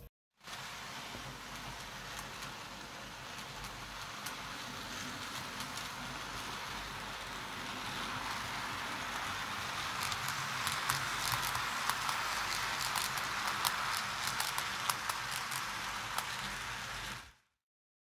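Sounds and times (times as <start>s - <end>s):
model train motor whirring: 0.4s - 17.5s.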